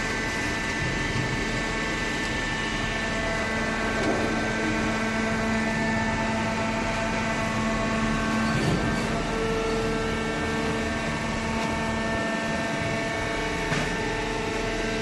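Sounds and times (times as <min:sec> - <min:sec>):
baler machine hum: 0:00.0 - 0:15.0.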